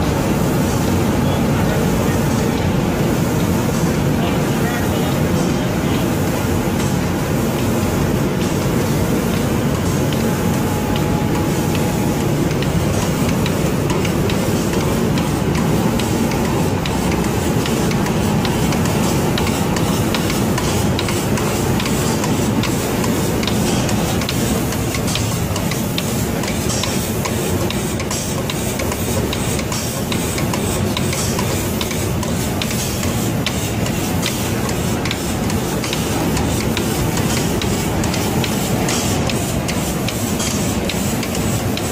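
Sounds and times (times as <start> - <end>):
machinery running: 0.0 - 41.9
spray guns hissing: 2.0 - 41.9.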